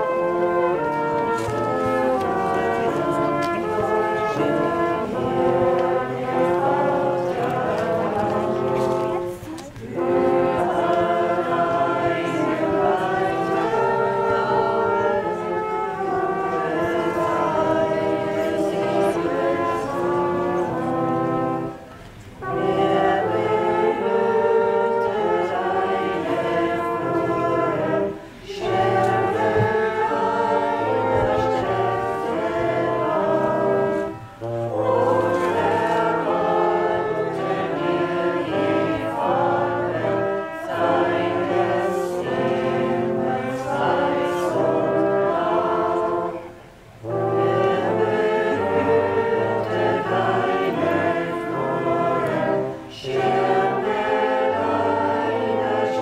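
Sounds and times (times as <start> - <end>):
brass band playing hymn: 0.0 - 56.0
voices singing along: 0.0 - 56.0.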